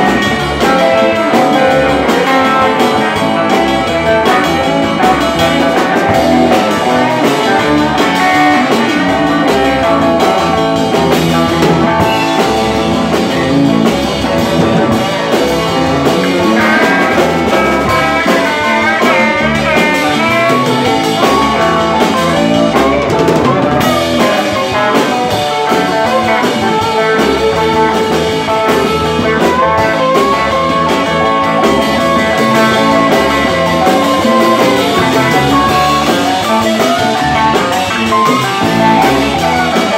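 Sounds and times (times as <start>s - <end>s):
lead guitar bending notes: 0.0s - 39.9s
rock band playing: 0.0s - 39.9s.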